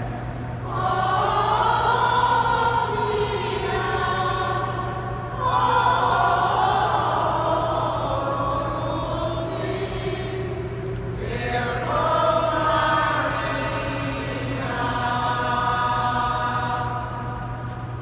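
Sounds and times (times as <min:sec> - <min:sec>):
church choir singing: 0:00.0 - 0:18.0.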